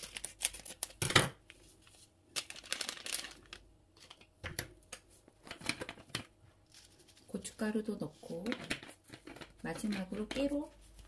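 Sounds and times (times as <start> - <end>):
packet crinkling and rustling: 0.0 - 4.4, 5.4 - 7.6, 8.2 - 11.0.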